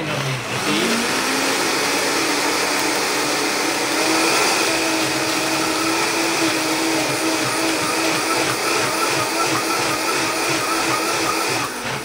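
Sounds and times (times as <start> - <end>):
blender motor running: 0.0 - 12.0.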